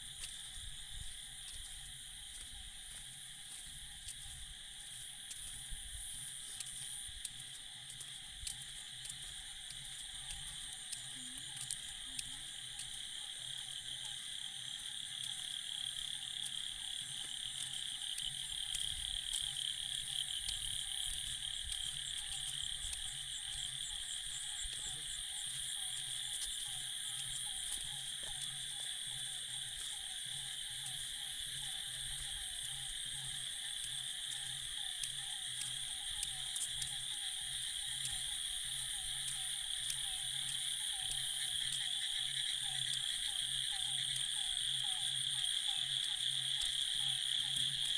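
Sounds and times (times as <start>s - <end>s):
frogs calling: 0.0s - 47.9s.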